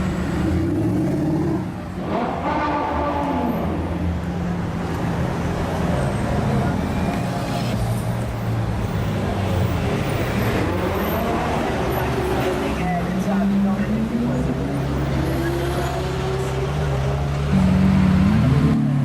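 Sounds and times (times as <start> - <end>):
car engines in traffic: 0.0 - 19.0.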